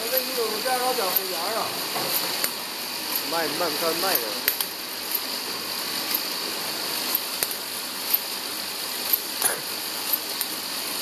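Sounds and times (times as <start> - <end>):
bottle-capping machine hissing: 0.0 - 11.0.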